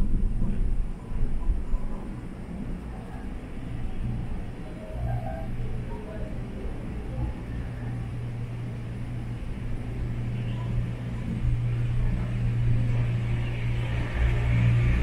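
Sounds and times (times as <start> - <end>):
cable car cabin hum and rumble: 0.0 - 15.0.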